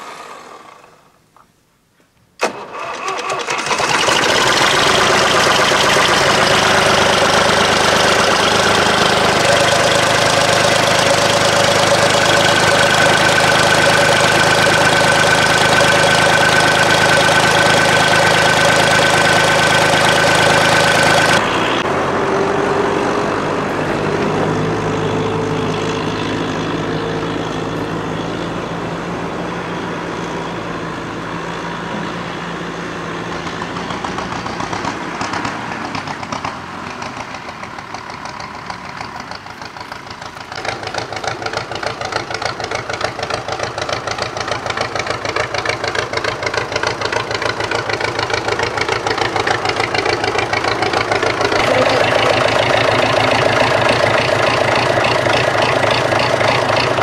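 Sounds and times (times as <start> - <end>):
diesel engine cranking and starting: 0.0 - 1.3, 2.4 - 57.0
tractor engine driving: 0.0 - 57.0
tractor engine running loud: 2.4 - 57.0.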